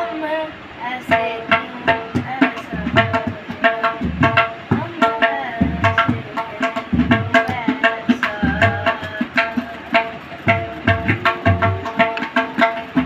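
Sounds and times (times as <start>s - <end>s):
boy singing: 0.0s - 13.0s
tabla treble drum strokes: 1.0s - 13.0s
tabla bass drum strokes: 1.2s - 13.0s.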